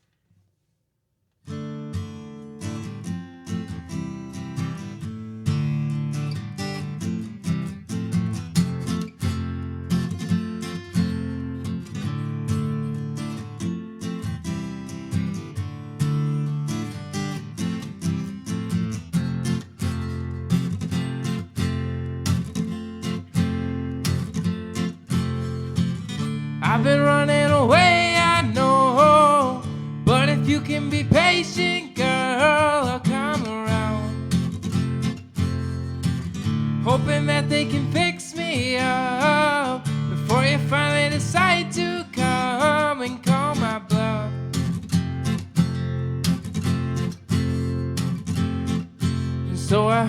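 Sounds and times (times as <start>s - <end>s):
acoustic guitar strummed: 1.5s - 50.0s.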